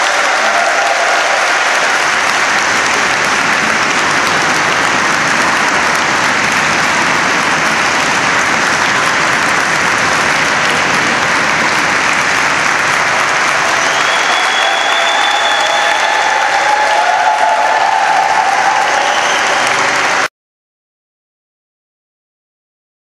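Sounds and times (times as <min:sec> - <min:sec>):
large audience applauding: 0:00.0 - 0:20.3.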